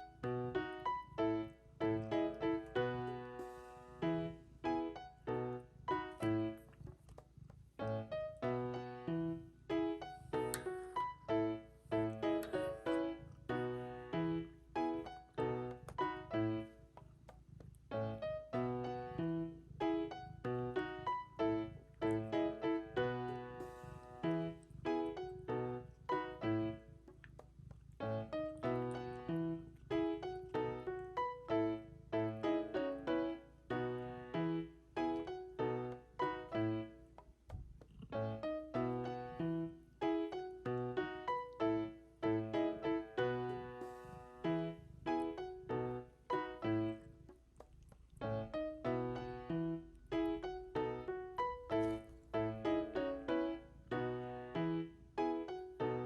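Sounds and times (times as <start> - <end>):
piano notes and chords: 0.0 - 7.2, 7.8 - 56.0.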